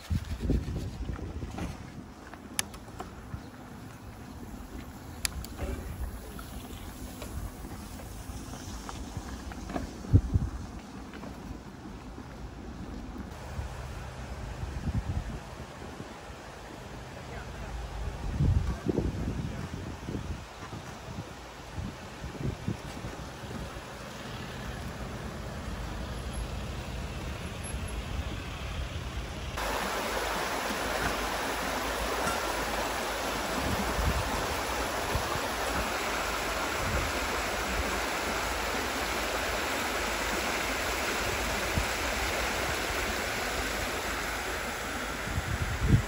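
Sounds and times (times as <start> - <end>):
flowing stream water: 1.2 - 18.3, 19.1 - 46.0.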